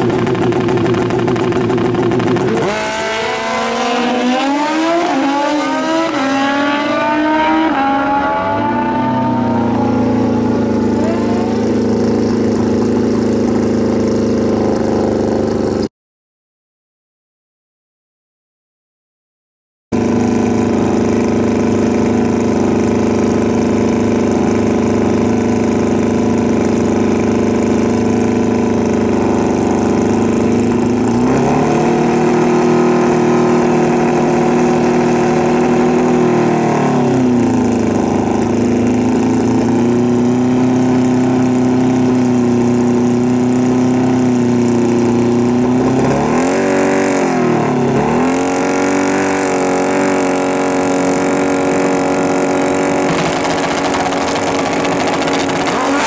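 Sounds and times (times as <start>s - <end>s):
motorcycle engines revving: 0.0s - 15.9s, 20.0s - 56.0s.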